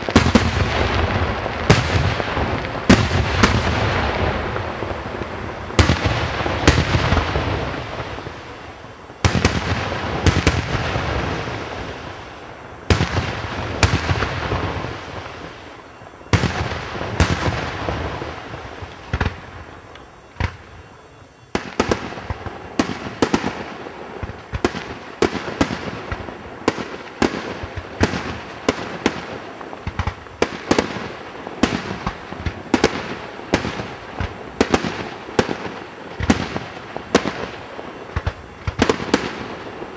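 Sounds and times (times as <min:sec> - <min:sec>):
crackling firework tails: 0:00.0 - 0:39.9
sharp firework reports: 0:00.0 - 0:39.9.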